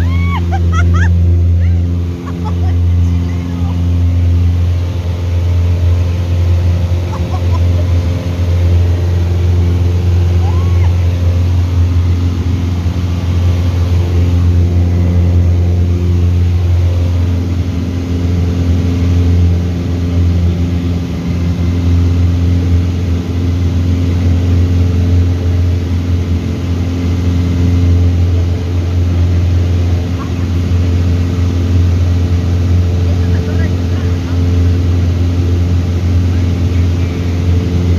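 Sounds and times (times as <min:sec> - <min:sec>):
light aircraft engine droning: 0:00.0 - 0:37.9.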